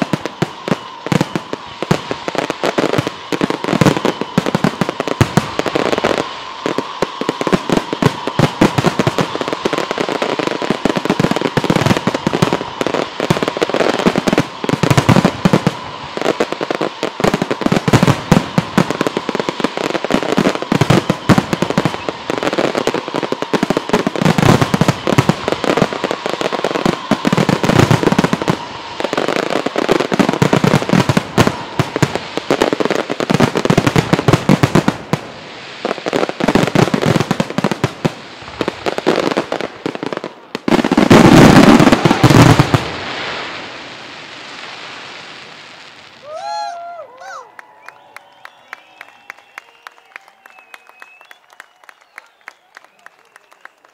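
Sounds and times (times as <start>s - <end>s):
firework bangs: 0.0s - 53.8s
firework crackling: 0.0s - 53.9s.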